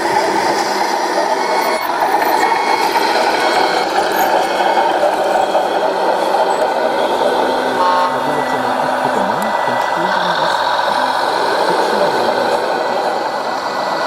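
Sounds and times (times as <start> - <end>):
model truck engine drone: 0.0 - 14.0.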